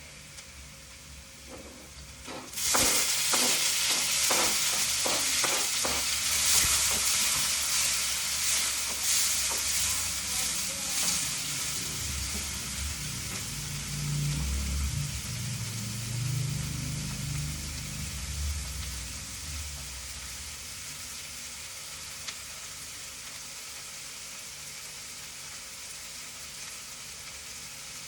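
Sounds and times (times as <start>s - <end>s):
food frying in hot oil: 0.0s - 28.0s.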